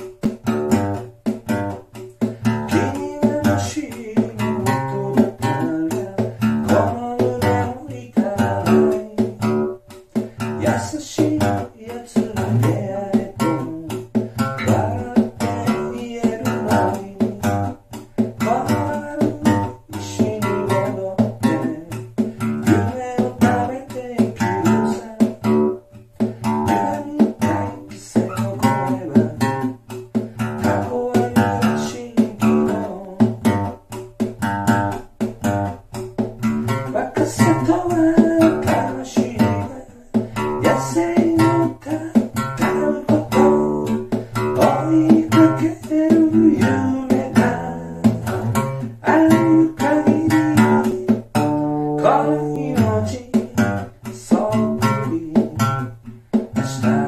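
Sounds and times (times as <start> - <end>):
acoustic guitar strumming: 0.0 - 57.0
man singing: 2.2 - 34.3, 36.4 - 57.0.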